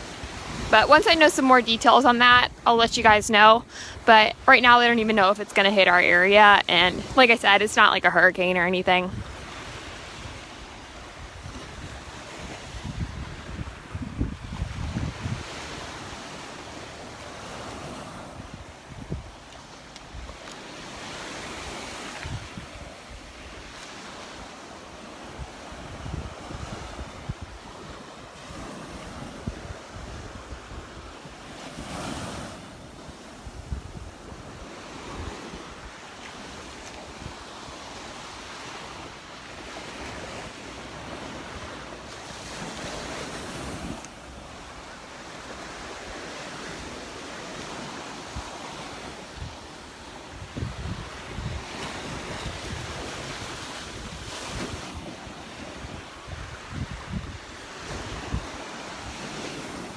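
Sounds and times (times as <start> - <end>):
wind buffeting microphone: 0.0 - 16.4, 17.4 - 19.5, 21.0 - 24.5, 25.2 - 39.0, 45.6 - 59.9
surf washing onto beach: 0.0 - 59.9.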